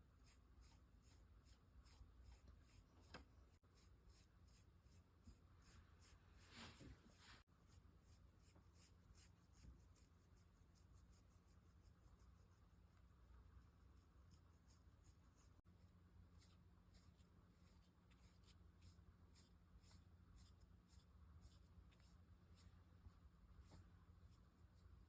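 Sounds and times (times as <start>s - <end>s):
brush strokes through fur: 0.0s - 25.0s.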